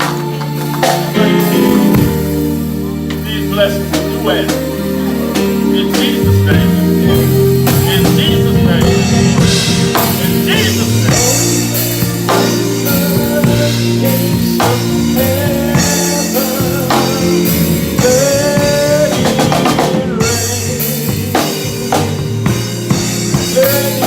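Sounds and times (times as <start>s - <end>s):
drum kit steady beat: 0.0s - 24.0s
sustained held chords: 0.0s - 24.0s.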